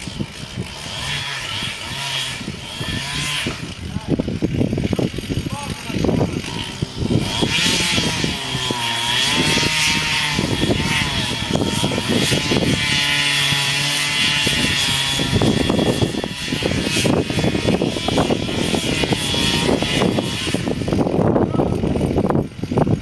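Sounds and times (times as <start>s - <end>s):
chainsaw cutting tree trunk: 0.0s - 23.0s.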